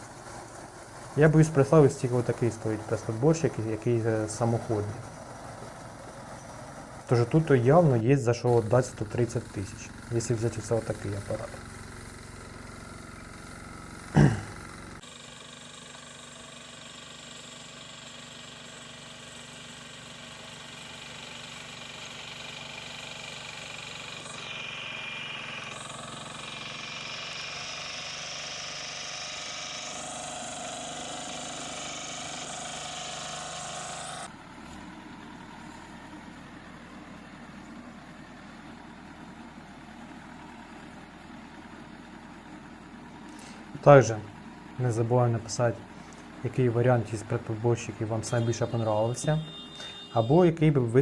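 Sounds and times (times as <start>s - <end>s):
hay baler engine running: 0.0s - 51.0s.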